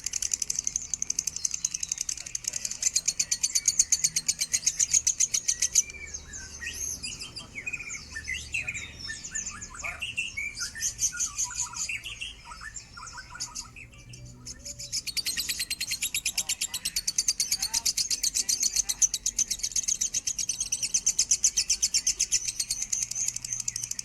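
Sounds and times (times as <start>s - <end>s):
bird trilling and chirping: 0.0s - 24.0s.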